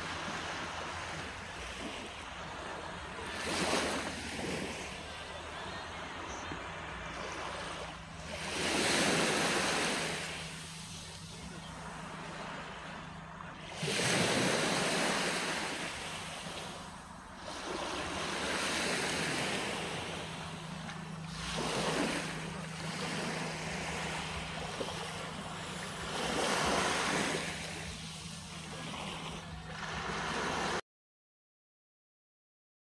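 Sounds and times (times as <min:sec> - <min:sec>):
sea waves breaking on a beach: 0:00.0 - 0:30.8.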